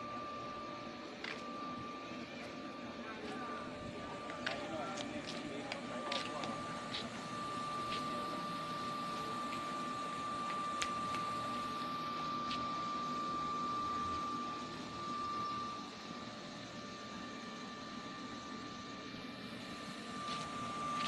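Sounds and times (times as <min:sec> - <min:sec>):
electric air blower whining: 0:00.0 - 0:21.0.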